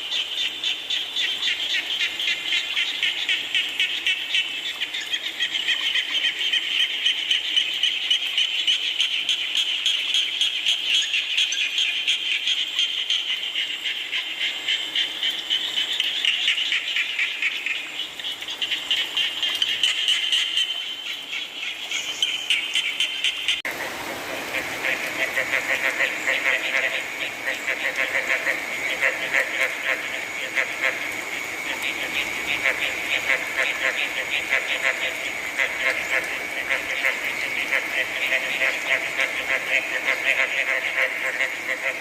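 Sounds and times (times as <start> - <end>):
frogs trilling: 0.0 - 42.0.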